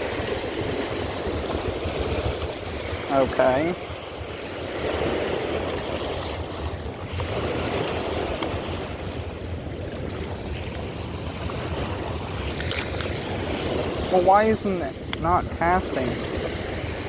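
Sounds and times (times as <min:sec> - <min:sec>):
fast-flowing river rushing: 0:00.0 - 0:17.0.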